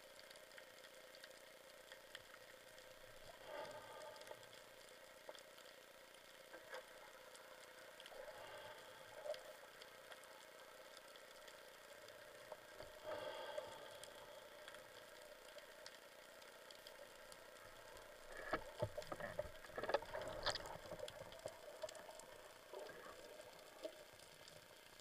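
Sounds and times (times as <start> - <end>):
faint clicks: 0.0 - 25.0
underwater low hum: 0.0 - 25.0.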